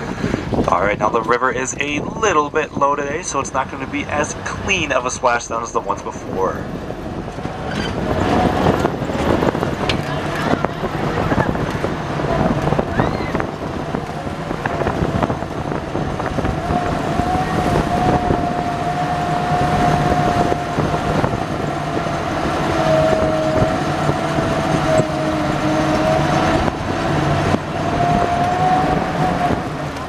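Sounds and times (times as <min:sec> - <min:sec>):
boat engine whine: 0:00.0 - 0:30.0
water churning along hull: 0:00.0 - 0:30.0.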